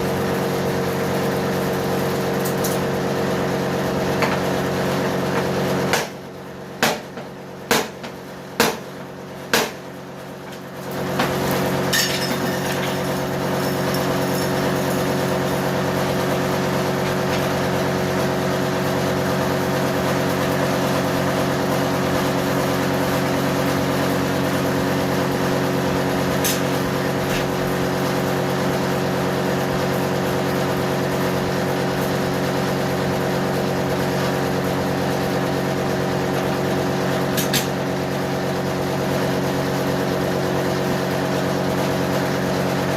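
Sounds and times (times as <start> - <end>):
mechanical hum with held tones: 0.0 - 42.9.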